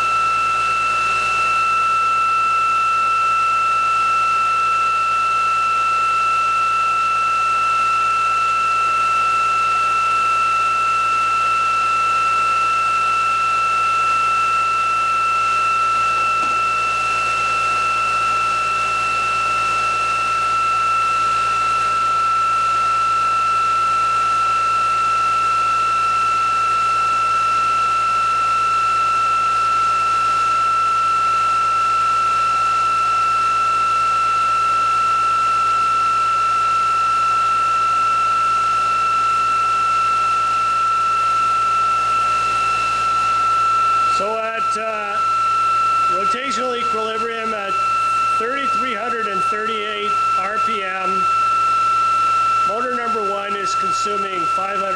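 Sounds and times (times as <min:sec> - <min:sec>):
electric motor whine: 0:00.0 - 0:54.9.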